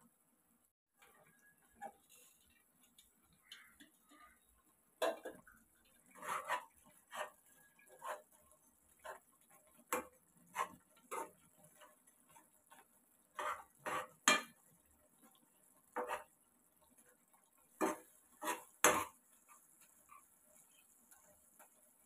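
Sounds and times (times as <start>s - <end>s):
spatula knocking and scraping a pan: 1.0s - 22.0s.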